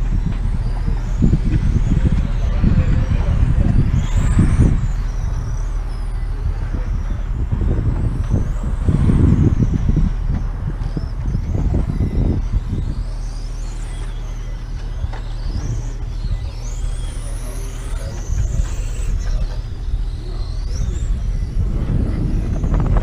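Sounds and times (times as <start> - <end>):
motorcycle engines revving and passing: 0.0 - 23.0
wind buffeting microphone: 0.0 - 23.0.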